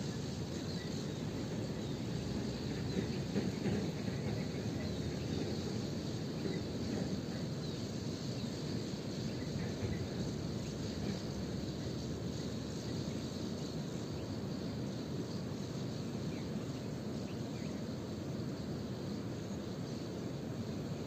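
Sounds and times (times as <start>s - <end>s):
faint high insect drone: 0.0s - 21.0s.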